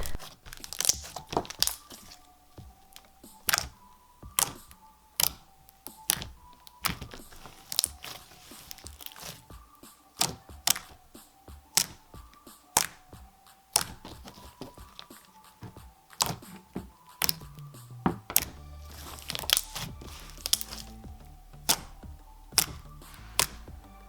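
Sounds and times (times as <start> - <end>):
quiet background music: 0.0 - 24.0
slime squishing and popping: 0.0 - 24.0.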